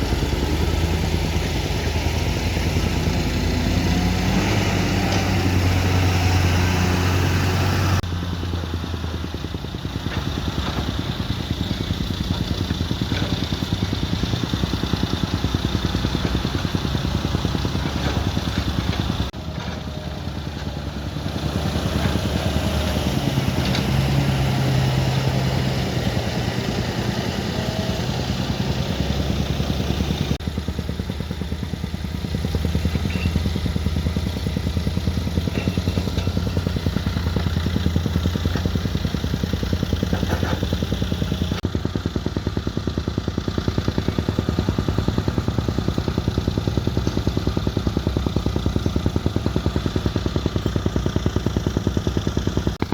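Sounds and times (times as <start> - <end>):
heavy machinery engine clattering: 0.0 - 52.9.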